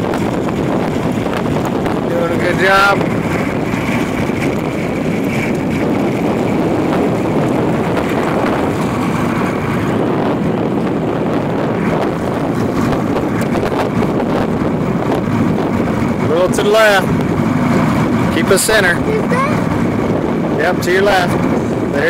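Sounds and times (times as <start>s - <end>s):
boat motor running: 0.0s - 22.0s
water rushing along hull: 0.0s - 22.0s
wind buffeting microphone: 0.0s - 22.0s.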